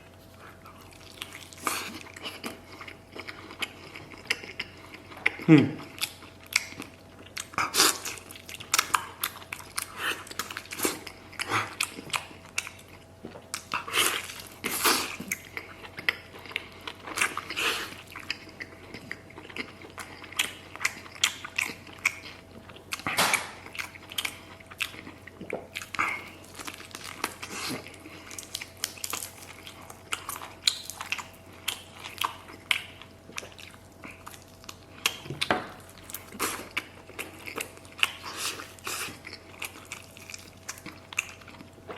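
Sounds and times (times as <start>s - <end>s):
person chewing and crunching: 0.0s - 41.9s.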